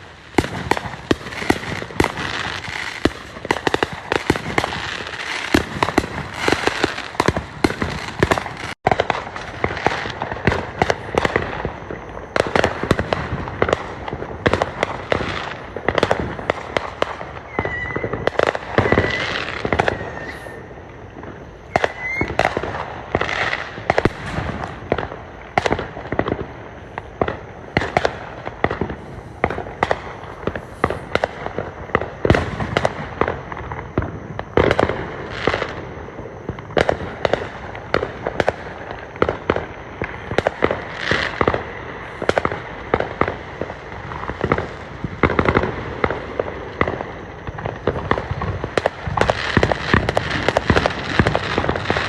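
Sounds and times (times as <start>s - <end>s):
fireworks bangs and crackles: 0.0s - 52.0s
fireworks whistling: 0.0s - 52.0s.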